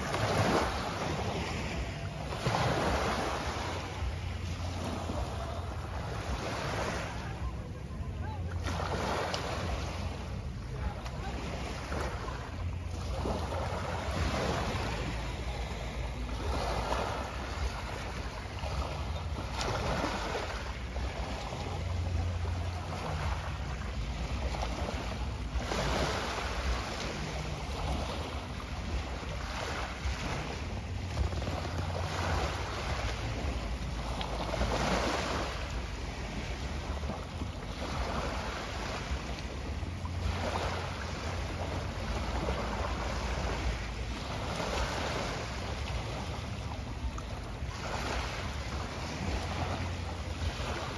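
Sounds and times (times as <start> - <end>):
small waves washing onto shore: 0.0 - 50.9
wind rumble on microphone: 0.0 - 50.9.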